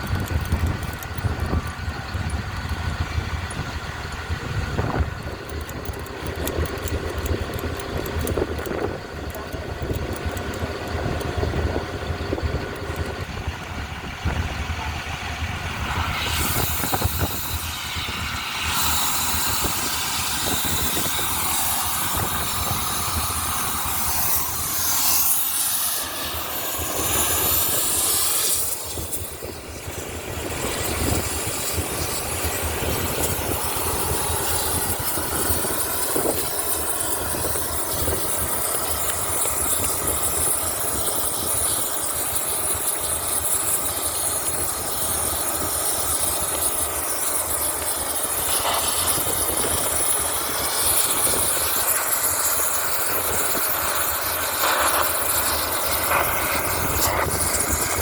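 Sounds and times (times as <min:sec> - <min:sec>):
engine running: 0:00.0 - 0:58.0
loud hissing: 0:10.4 - 0:58.0.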